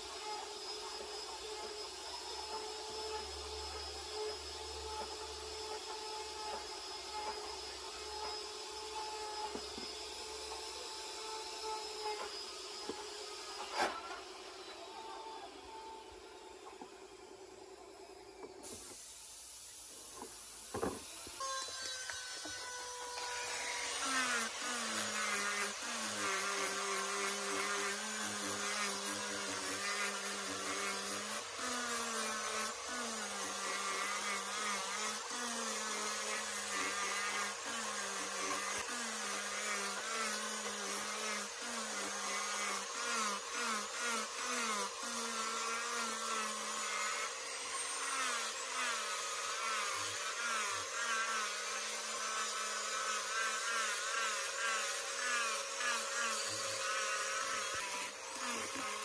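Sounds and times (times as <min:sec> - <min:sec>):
angle grinder sanding: 0:00.0 - 0:15.6, 0:18.6 - 0:59.0.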